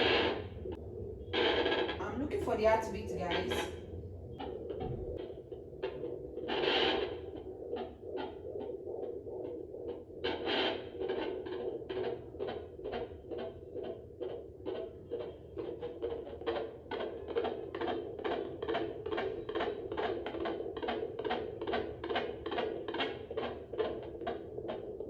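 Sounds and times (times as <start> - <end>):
heartbeat whooshing pulse: 0.0 - 25.0.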